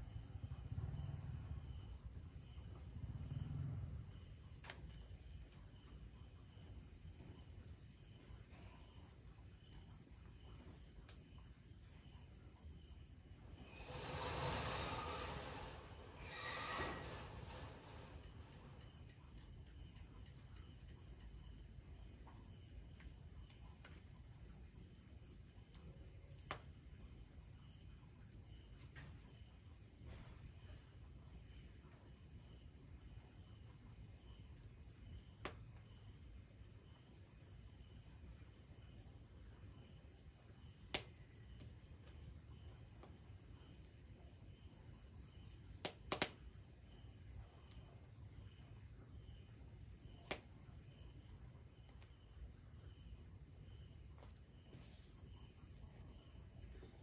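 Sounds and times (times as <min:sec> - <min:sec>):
faint insect chirping: 0:00.0 - 0:57.0.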